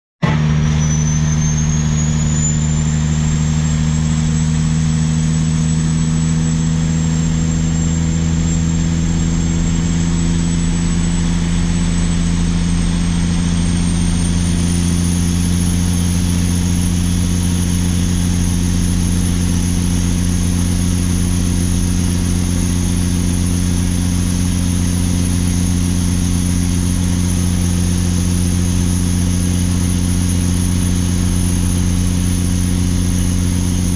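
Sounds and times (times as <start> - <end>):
diesel engine droning under load: 0.2 - 33.9
turbocharger whistle: 0.2 - 33.9.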